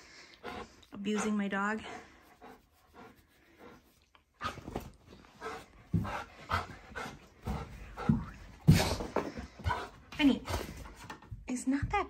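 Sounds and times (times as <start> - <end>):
dog panting: 0.0 - 11.2.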